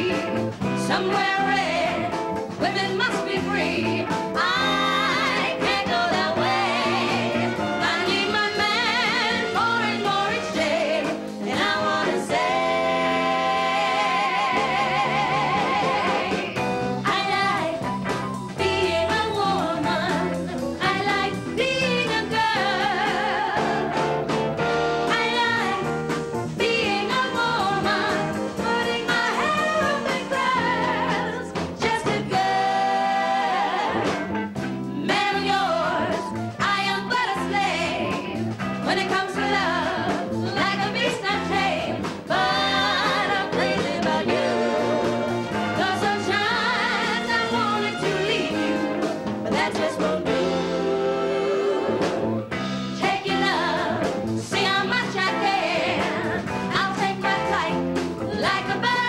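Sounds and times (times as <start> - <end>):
women singing in harmony: 0.0 - 24.2, 25.1 - 34.3, 35.0 - 52.3, 53.0 - 59.0
live band playing: 0.0 - 59.0.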